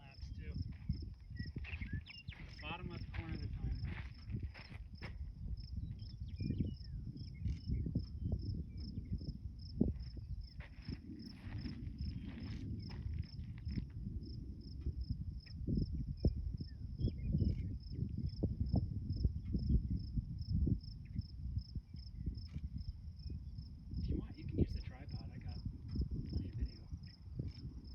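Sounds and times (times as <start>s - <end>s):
insect chirping: 0.0s - 27.9s
wind buffeting microphone: 0.0s - 27.9s.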